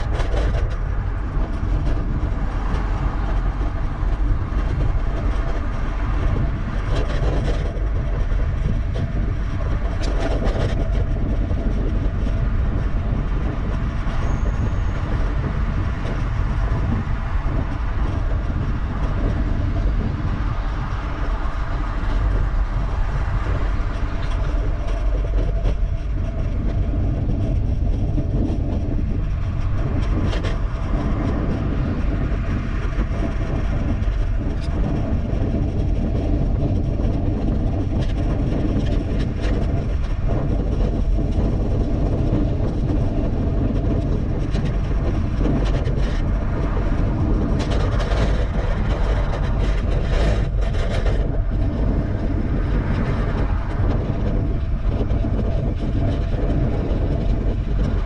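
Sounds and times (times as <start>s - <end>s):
tyre and road noise: 0.0s - 58.0s
wind rushing on microphone: 0.0s - 58.0s.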